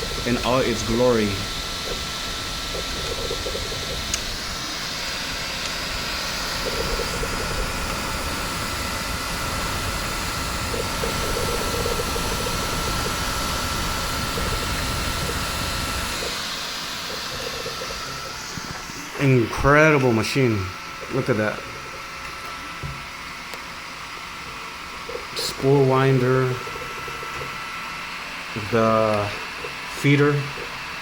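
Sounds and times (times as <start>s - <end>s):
printer fan with high whine: 0.0s - 31.0s
printer motor buzzing: 0.0s - 31.0s.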